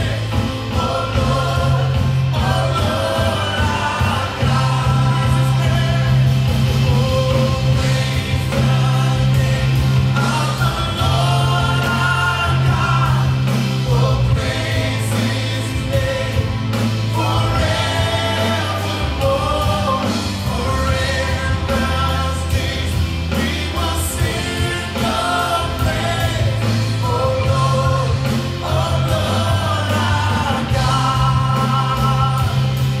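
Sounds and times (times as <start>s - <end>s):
drum kit: 0.0s - 33.0s
electric bass: 0.0s - 33.0s
man singing into microphone: 2.3s - 16.5s, 17.2s - 32.7s.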